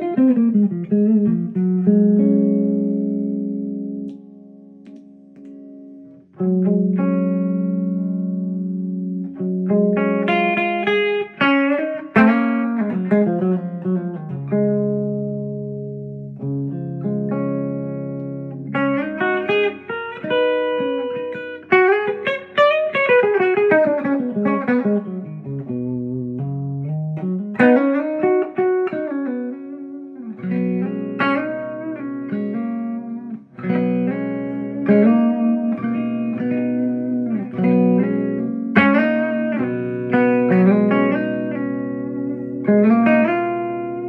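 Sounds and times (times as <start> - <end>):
electric guitar through an amp: 0.0 - 44.0.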